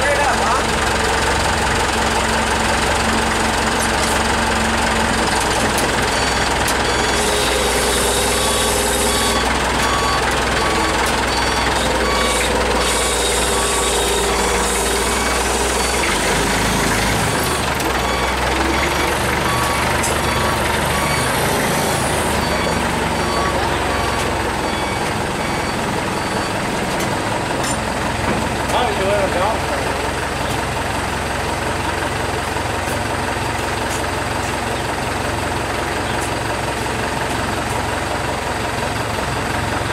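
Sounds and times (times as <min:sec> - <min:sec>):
forklift engine running: 0:00.0 - 0:39.9.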